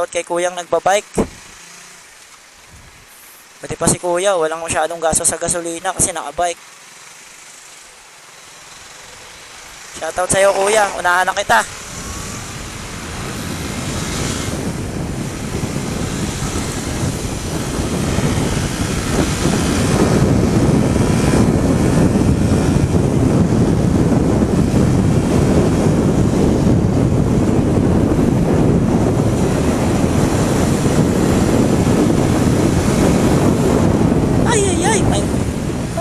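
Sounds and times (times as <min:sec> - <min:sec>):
wind rushing over microphone: 0:00.0 - 0:01.9, 0:02.6 - 0:06.5, 0:07.8 - 0:36.0
motorcycle engine running: 0:05.3 - 0:36.0.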